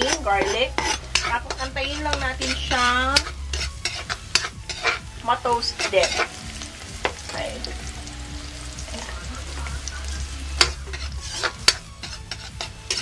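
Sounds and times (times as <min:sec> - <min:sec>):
metal spatula scraping a wok: 0:00.0 - 0:13.0
onion and garlic sizzling in oil: 0:00.0 - 0:13.0.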